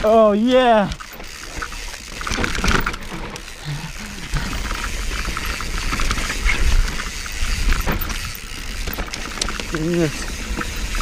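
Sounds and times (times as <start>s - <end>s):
bike rattling: 0.0s - 11.0s
bike tyres rolling on dirt: 0.0s - 11.0s.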